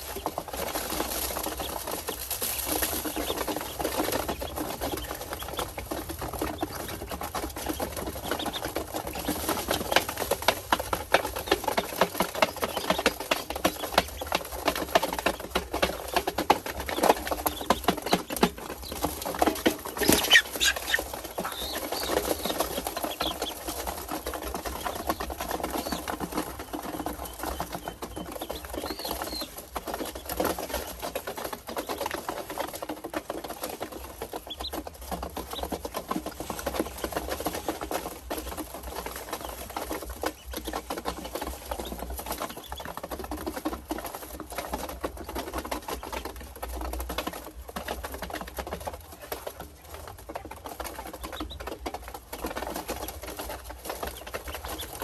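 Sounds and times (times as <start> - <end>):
ducklings peeping: 0.0 - 55.0
rapid pattering and clicking: 0.0 - 55.0.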